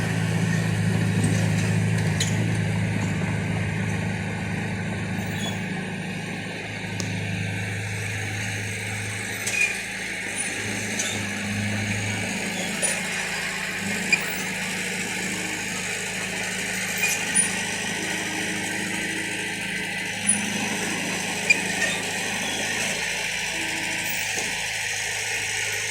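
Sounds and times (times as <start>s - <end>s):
bulldozer diesel engine running: 0.0s - 25.9s.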